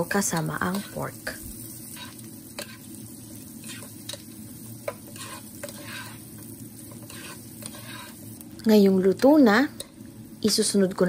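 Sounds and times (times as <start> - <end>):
onions frying in oil: 0.0 - 11.0.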